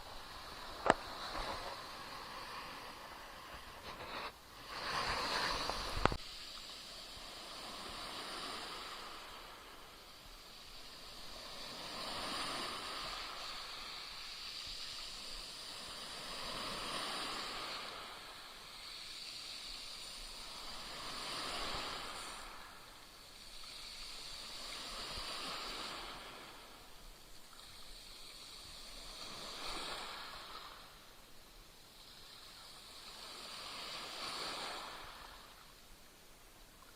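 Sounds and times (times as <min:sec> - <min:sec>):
small waves splashing at shore: 0:00.0 - 0:36.9.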